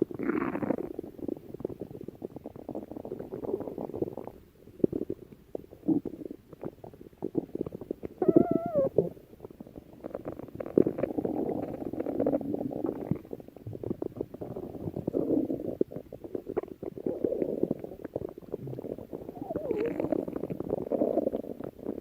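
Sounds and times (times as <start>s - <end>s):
stomach growling: 0.0s - 22.0s.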